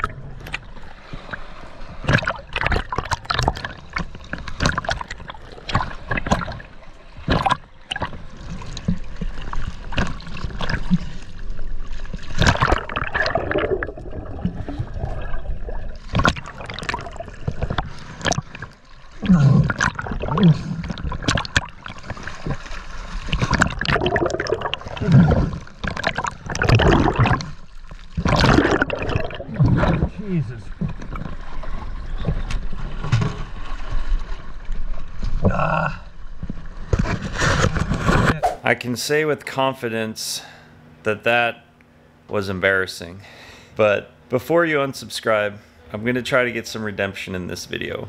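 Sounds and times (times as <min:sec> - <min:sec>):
sea water splashing: 0:00.0 - 0:38.6
underwater gurgling: 0:00.0 - 0:38.6.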